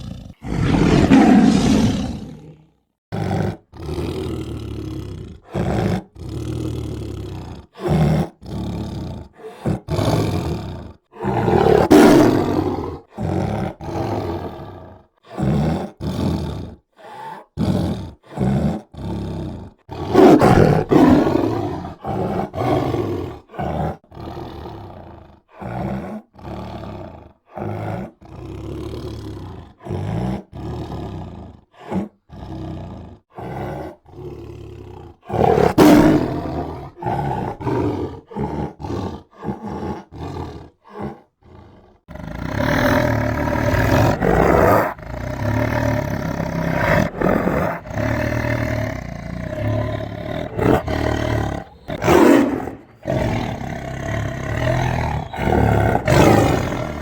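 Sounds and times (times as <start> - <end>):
tiger roaring and growling: 0.0 - 57.0.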